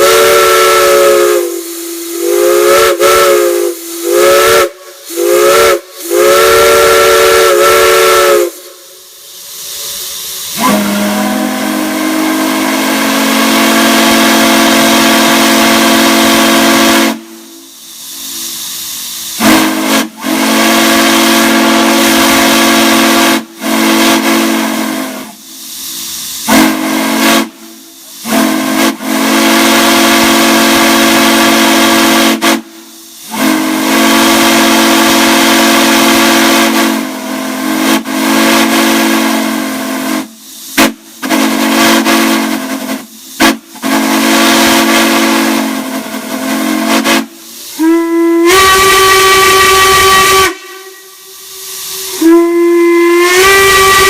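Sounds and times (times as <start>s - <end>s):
steam whistle chord blasts: 0.0s - 18.6s, 19.3s - 54.0s
steam hissing: 0.0s - 54.0s.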